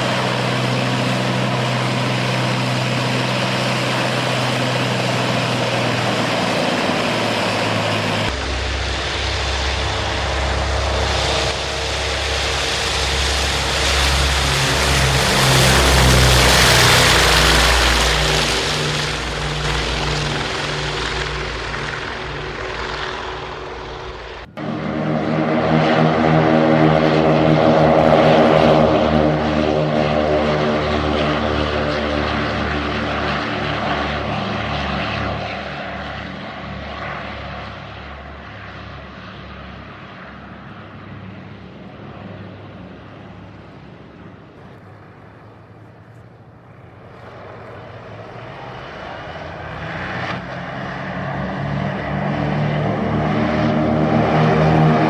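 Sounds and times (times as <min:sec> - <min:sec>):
propeller aircraft passing: 0:00.0 - 0:55.0.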